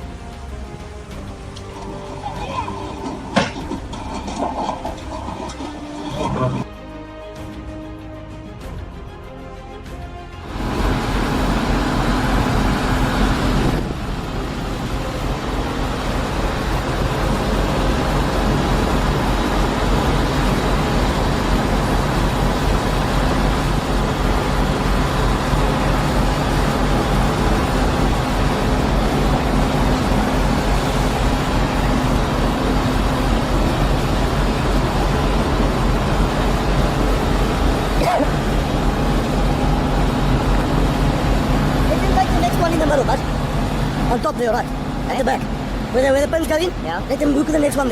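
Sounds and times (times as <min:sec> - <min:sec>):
large engine droning: 0:00.0 - 0:06.7, 0:10.3 - 0:47.9.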